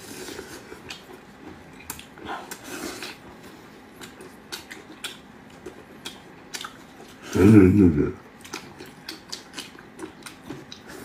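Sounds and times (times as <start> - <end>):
wet chewing and lip smacks: 0.7 - 7.2, 8.3 - 11.0.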